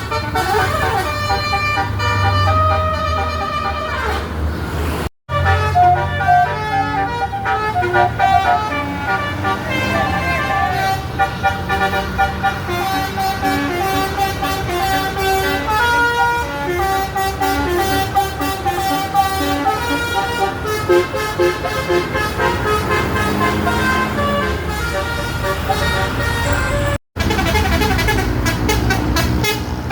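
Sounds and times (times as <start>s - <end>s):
bus engine rumble: 0.0s - 29.9s
musical bus horn tune: 0.0s - 29.9s.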